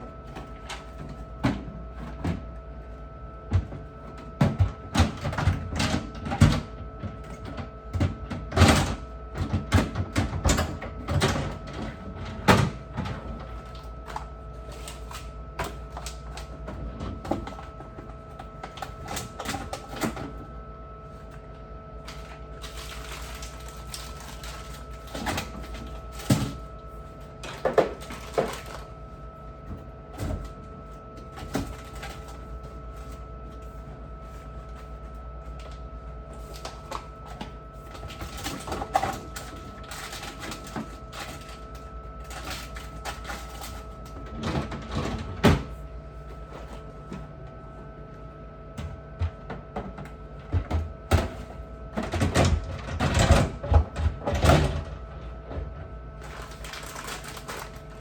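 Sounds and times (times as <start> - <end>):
steady hum: 8.6 - 58.0.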